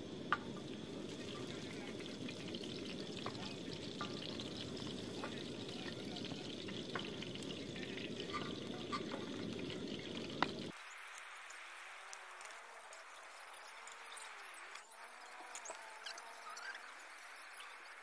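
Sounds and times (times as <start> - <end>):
sausage sizzling in oil: 0.0 - 18.0.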